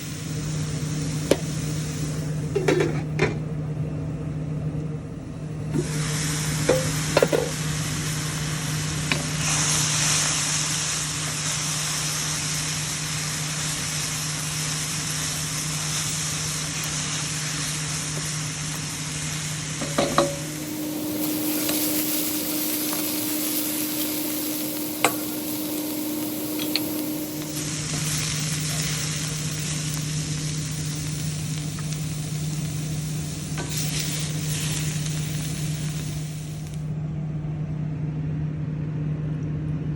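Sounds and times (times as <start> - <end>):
stir-fry sizzling in a pan: 0.0 - 3.4, 5.6 - 36.9
steady low hum: 0.0 - 39.9.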